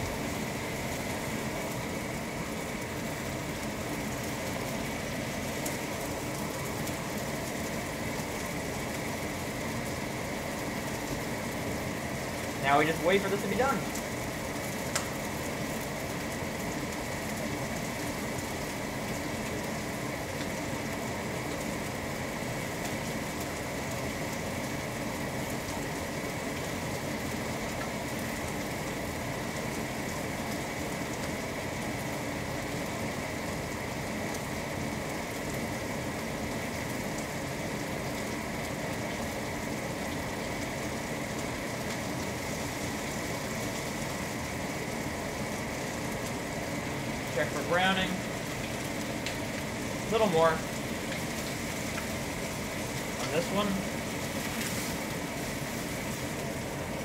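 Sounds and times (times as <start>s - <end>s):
chicken sizzling in a skillet: 0.0s - 57.0s
range hood fan humming: 0.0s - 57.0s.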